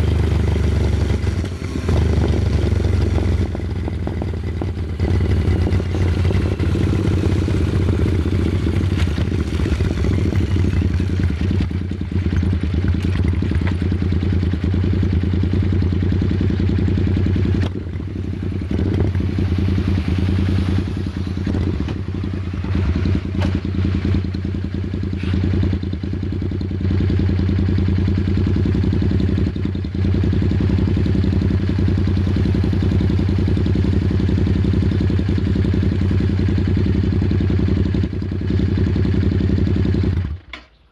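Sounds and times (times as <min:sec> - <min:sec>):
motorcycle engine running: 0:00.0 - 0:40.6.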